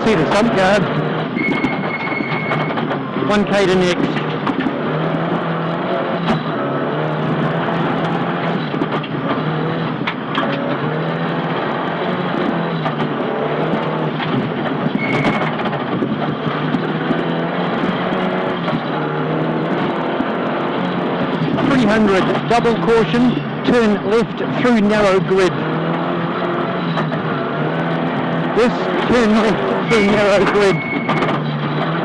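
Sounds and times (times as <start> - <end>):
rally car engine revving: 0.0 - 32.0
road noise: 0.0 - 32.0.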